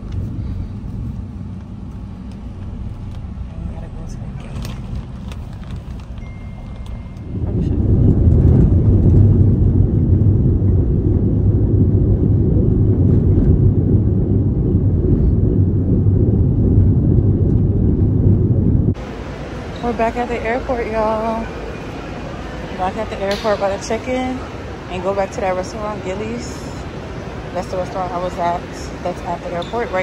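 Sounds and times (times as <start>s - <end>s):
wind rushing: 0.0s - 6.2s, 6.8s - 30.0s
van road noise: 0.0s - 30.0s.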